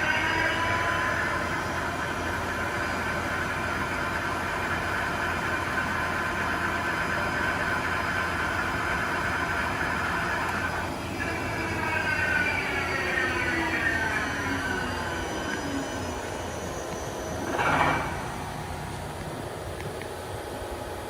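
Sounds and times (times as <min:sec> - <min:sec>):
lathe humming and whining: 0:00.0 - 0:21.0.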